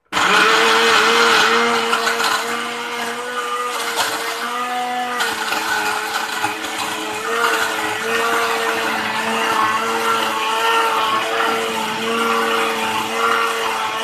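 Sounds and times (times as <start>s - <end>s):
blender churning gritty paste: 0.0s - 14.0s
blender motor hum: 0.0s - 14.0s.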